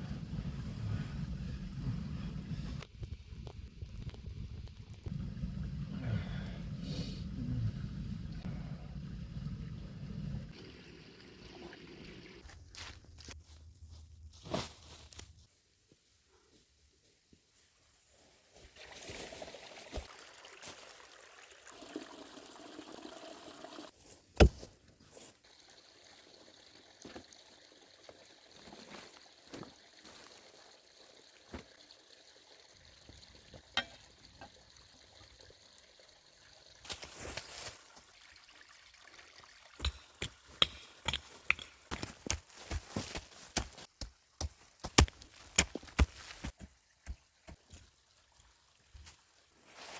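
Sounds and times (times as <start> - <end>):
water pouring and trickling: 0.0 - 12.8, 18.6 - 24.0, 25.1 - 49.9.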